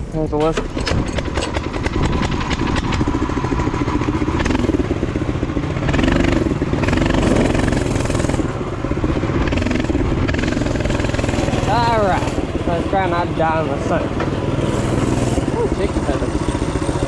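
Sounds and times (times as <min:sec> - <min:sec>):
mini bike engine running: 0:00.5 - 0:17.0.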